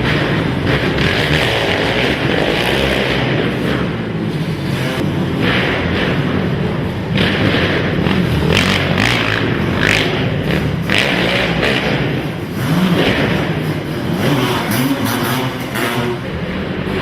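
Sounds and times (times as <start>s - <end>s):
racing quad engines revving: 0.0s - 17.0s.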